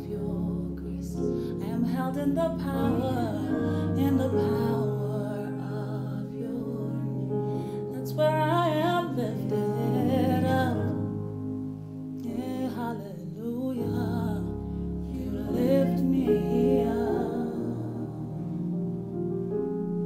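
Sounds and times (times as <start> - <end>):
woman singing worship song: 0.0 - 11.3, 12.2 - 18.7
sustained accompanying chords: 0.0 - 20.0.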